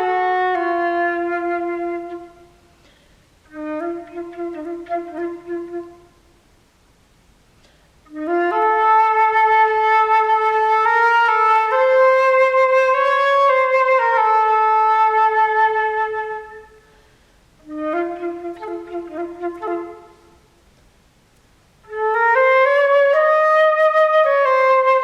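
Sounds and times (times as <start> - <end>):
solo flute playing: 0.0 - 6.4, 8.0 - 20.6, 21.8 - 25.0.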